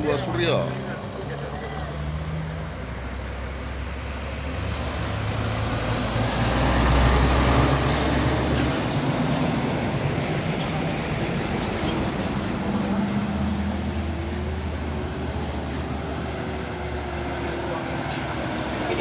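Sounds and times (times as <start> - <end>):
truck diesel engine labouring: 0.0 - 19.0.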